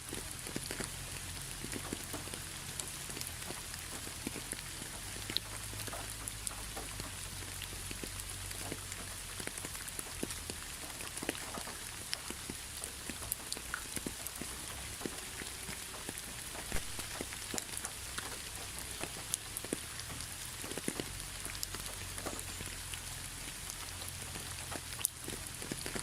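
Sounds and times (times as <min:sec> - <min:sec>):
raindrops ticking: 0:00.0 - 0:26.0
steady rain falling: 0:00.0 - 0:26.0.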